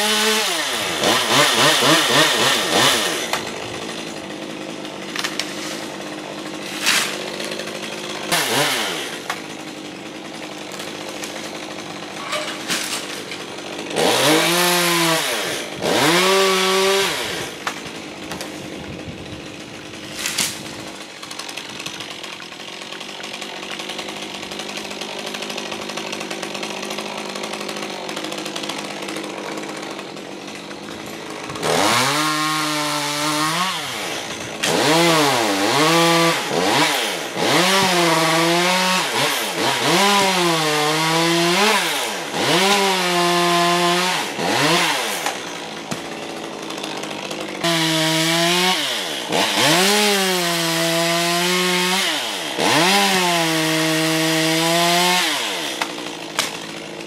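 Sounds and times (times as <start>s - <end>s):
chainsaw revving and cutting: 0.0s - 57.0s.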